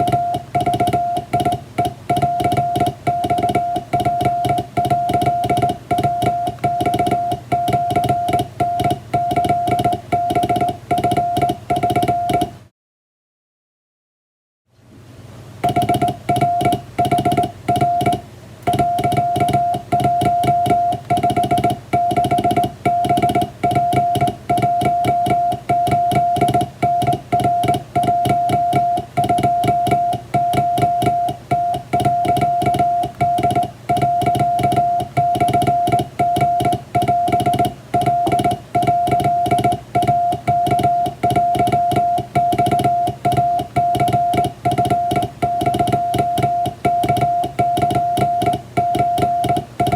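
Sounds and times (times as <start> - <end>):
morse code beeps: 0.0 - 12.6, 15.6 - 49.9.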